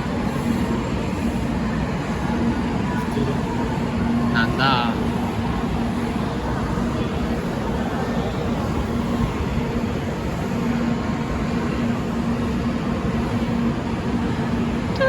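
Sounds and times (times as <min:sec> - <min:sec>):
railway station rumble: 0:00.0 - 0:15.0.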